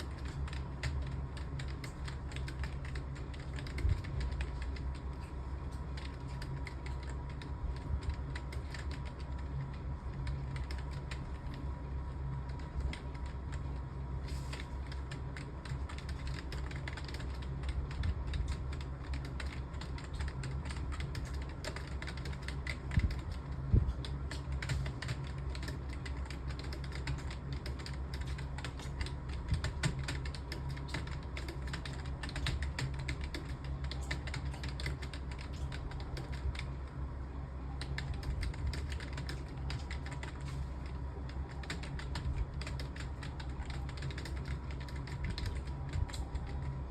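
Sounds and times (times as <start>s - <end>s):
fast typing on keyboard: 0.0s - 36.8s, 37.7s - 46.9s
steady low hum: 0.0s - 46.9s.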